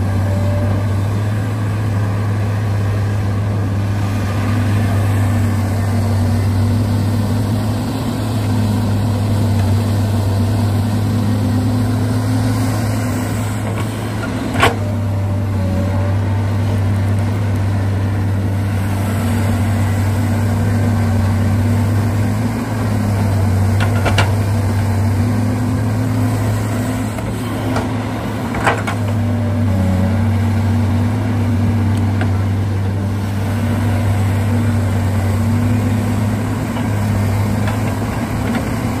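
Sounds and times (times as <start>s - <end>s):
excavator motor hum: 0.0s - 39.0s.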